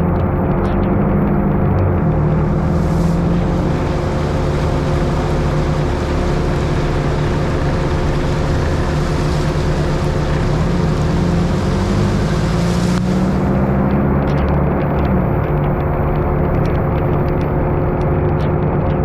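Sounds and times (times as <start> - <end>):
car engine hum: 0.0 - 19.0
tyres hissing on wet road: 0.9 - 18.1.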